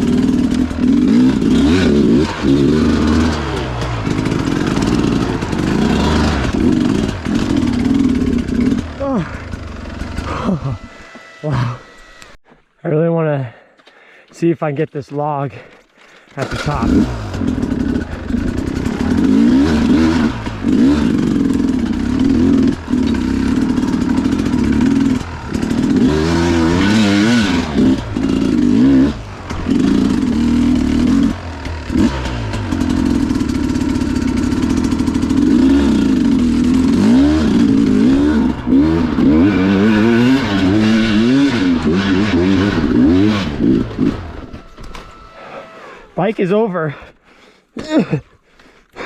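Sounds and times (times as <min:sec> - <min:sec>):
dirt bike engine revving: 0:00.0 - 0:12.4, 0:16.4 - 0:46.2.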